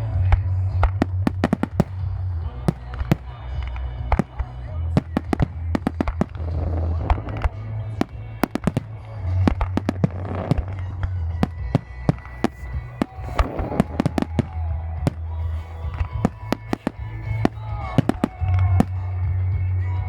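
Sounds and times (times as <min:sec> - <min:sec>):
music playing: 0:00.0 - 0:20.0
fireworks bangs: 0:00.8 - 0:19.1.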